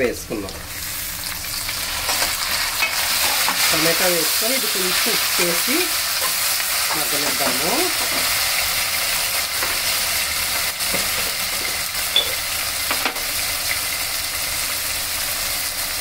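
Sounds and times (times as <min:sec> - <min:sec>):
tomatoes sizzling in oil: 0:00.3 - 0:16.0.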